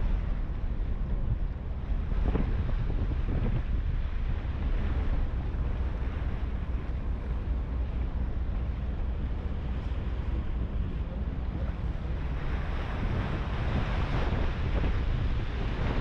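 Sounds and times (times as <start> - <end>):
low engine rumble: 0.0 - 16.0
water washing along hull: 0.0 - 16.0
wind buffeting microphone: 0.0 - 16.0.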